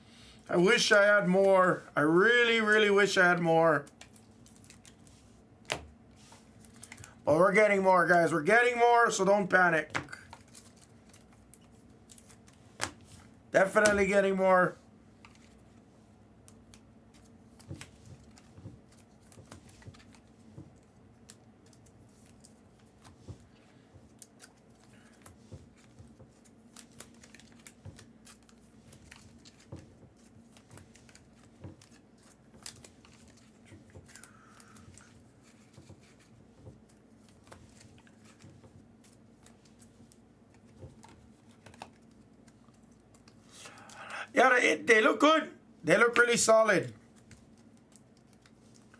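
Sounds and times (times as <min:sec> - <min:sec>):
trading cards being handled: 0:00.7 - 0:07.7, 0:09.5 - 0:48.9.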